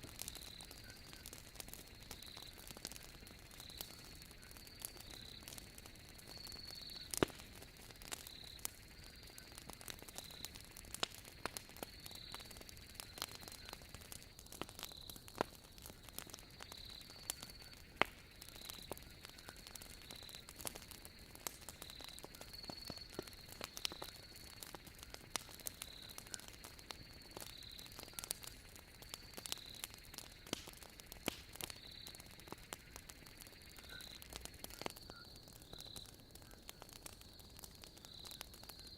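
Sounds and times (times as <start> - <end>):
night insects chirping: 0.0 - 38.9
soft steady hiss: 0.0 - 38.9
wood fire crackling and popping: 0.0 - 38.9.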